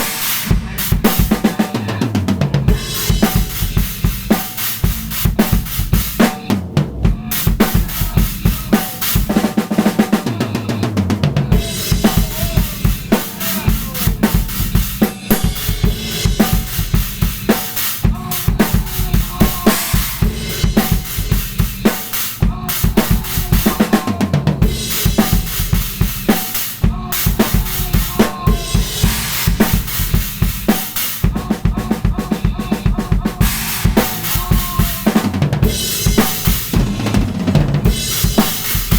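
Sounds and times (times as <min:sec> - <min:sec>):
drum kit groove: 0:00.0 - 0:38.9.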